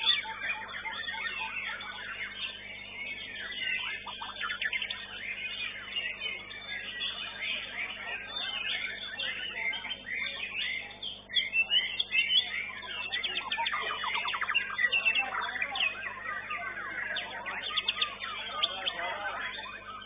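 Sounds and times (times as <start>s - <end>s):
birds singing whistles and chatter: 0.0s - 20.0s.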